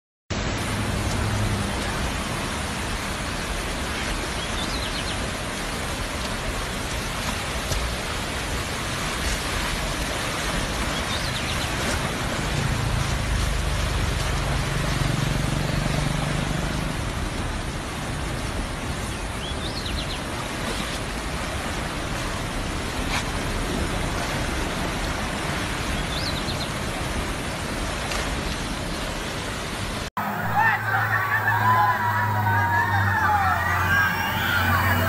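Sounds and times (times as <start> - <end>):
river water rushing: 0.4 - 35.0.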